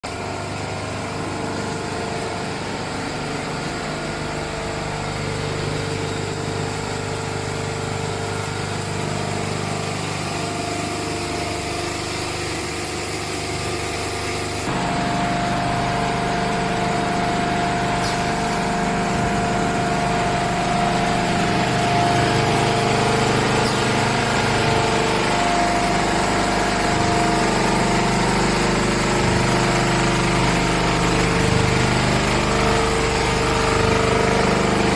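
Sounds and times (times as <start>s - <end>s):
machine line humming: 0.0s - 34.9s
motor whine: 0.1s - 34.9s.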